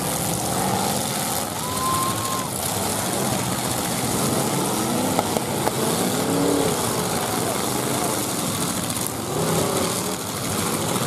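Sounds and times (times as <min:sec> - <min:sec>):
car engines idling and revving: 0:00.0 - 0:11.0.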